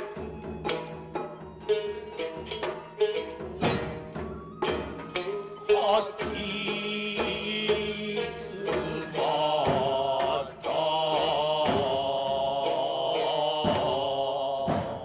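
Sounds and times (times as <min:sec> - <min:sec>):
plucked shamisen notes: 0:00.0 - 0:15.0.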